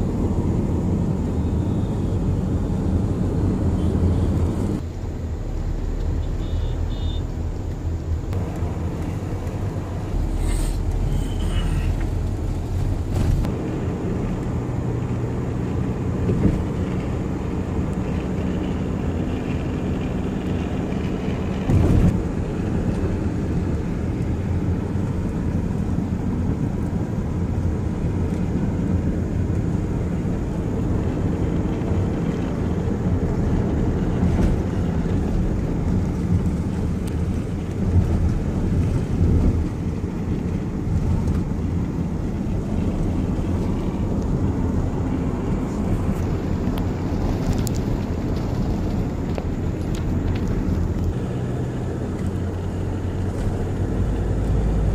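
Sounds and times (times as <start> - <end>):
car interior road rumble: 0.0 - 54.9.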